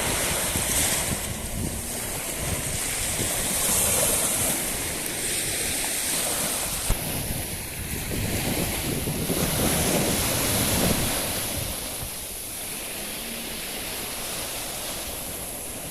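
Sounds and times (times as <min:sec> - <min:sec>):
sea waves washing onto shore: 0:00.0 - 0:15.9
wind buffeting microphone: 0:00.0 - 0:15.9.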